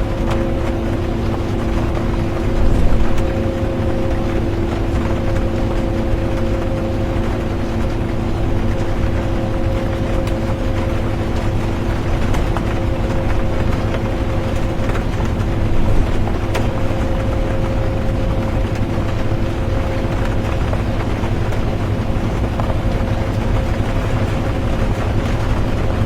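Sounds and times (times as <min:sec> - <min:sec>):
bus engine and road rumble: 0:00.0 - 0:26.0
rain ticking on windows: 0:00.0 - 0:26.0.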